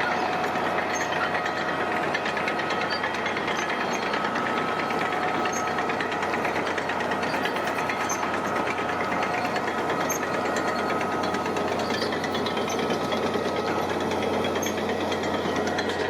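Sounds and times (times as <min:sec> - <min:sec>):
diesel engine clattering: 0:00.0 - 0:16.0.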